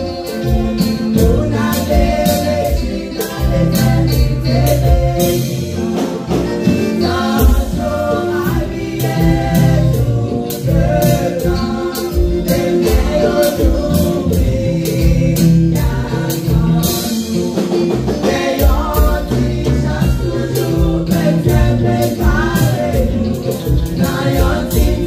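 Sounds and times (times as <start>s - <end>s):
bass line: 0.0s - 25.0s
steady drum beat: 0.0s - 25.0s
women's group singing gospel: 0.0s - 25.0s.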